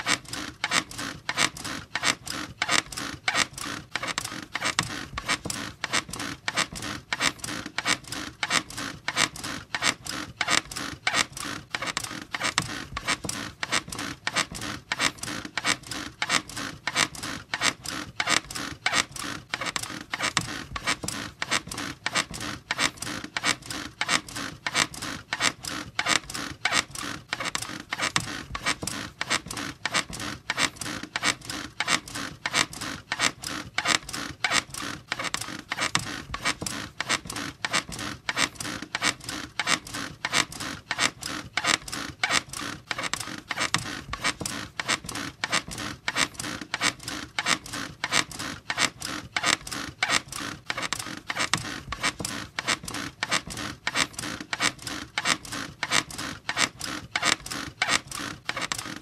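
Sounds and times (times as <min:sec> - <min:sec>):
bed springs squeaking: 0:00.0 - 0:59.0.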